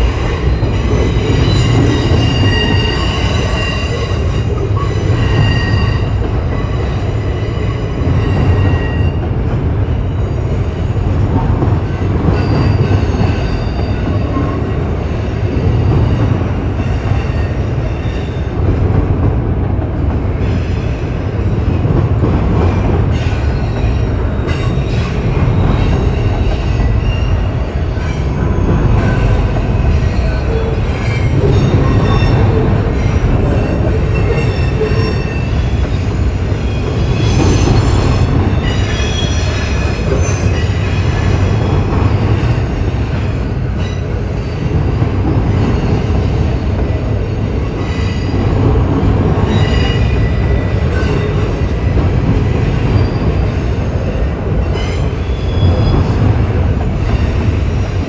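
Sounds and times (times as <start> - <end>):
squealing train wheels: 0.0 - 18.7, 20.4 - 58.0
freight train cars rumbling: 0.0 - 58.0
train clacks: 0.0 - 58.0.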